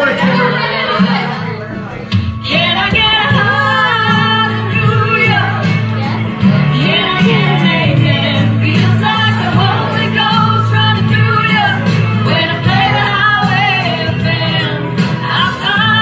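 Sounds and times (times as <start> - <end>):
backing music: 0.0 - 16.0
woman singing into microphone: 2.3 - 16.0.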